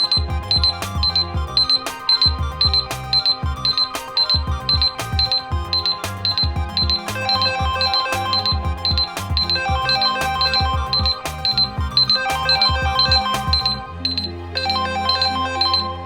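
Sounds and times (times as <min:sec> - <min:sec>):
electronic phone ringtone: 0:00.0 - 0:16.0.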